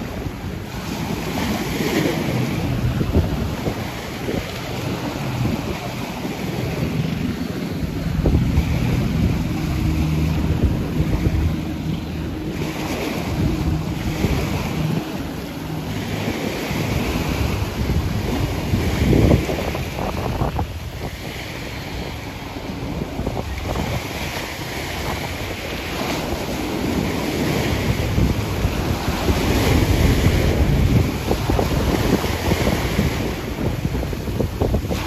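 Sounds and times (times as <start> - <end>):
small waves breaking on beach: 0.0 - 35.0
wind buffeting microphone: 0.0 - 35.0.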